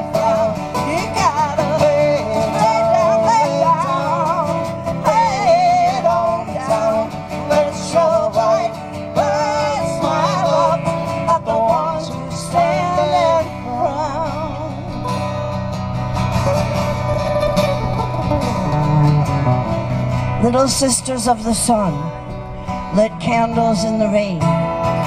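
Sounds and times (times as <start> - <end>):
acoustic guitar: 0.0 - 25.0.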